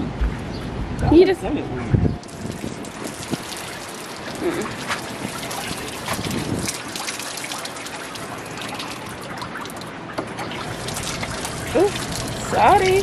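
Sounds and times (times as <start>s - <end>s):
water splashing on wooden boards: 2.2s - 13.0s.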